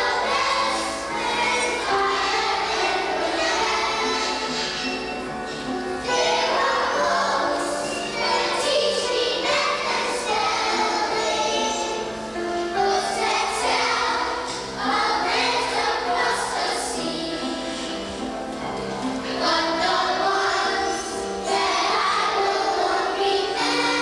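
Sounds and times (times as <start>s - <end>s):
children singing in chorus: 0.0s - 18.3s, 19.0s - 24.0s
instrumental accompaniment: 0.0s - 24.0s.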